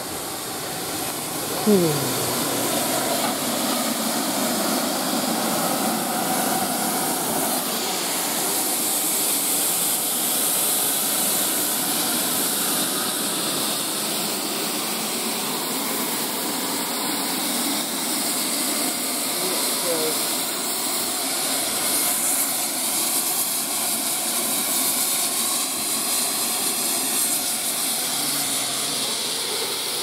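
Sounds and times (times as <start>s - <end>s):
steam hissing: 0.0s - 30.0s.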